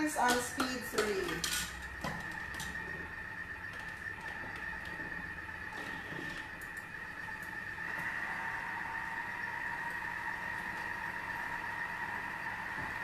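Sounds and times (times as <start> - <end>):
food processor electrical whine: 0.6 - 13.0.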